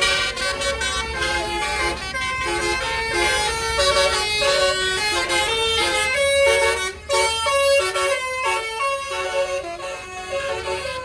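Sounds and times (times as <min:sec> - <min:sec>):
bus engine rumble: 0:00.0 - 0:11.0
bus melody horn: 0:00.0 - 0:11.0.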